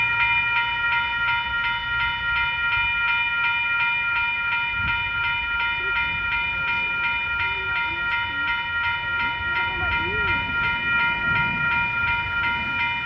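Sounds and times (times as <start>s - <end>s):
electronic crossing bell ringing: 0.0s - 13.0s.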